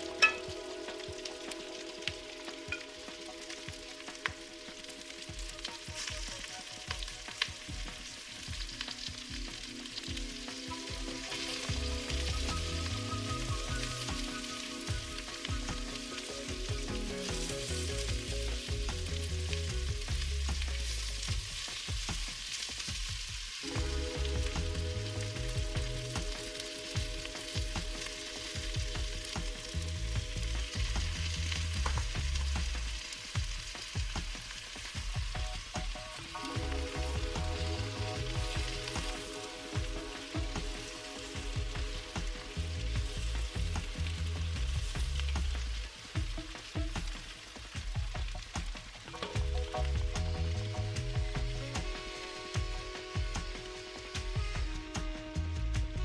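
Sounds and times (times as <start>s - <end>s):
sausage and onion sizzling: 0.0s - 56.0s
soft music with pulsing bass: 0.0s - 56.0s.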